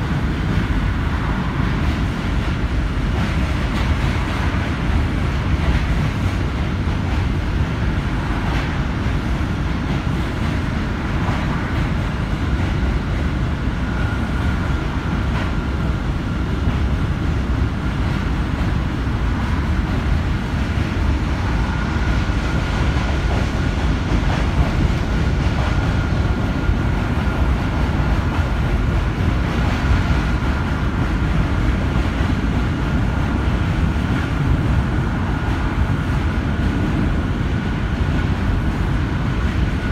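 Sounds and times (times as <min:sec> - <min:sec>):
subway wheels rumbling on rails: 0:00.0 - 0:39.9.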